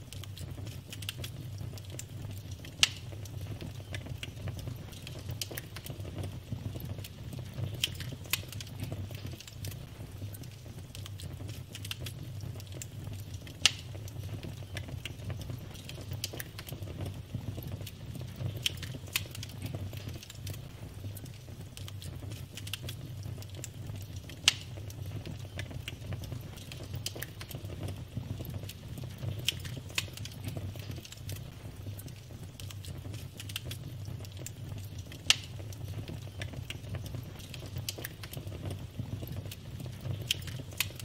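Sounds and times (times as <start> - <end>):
fire popping: 0.0 - 41.0
wood fire crackling: 0.0 - 41.0.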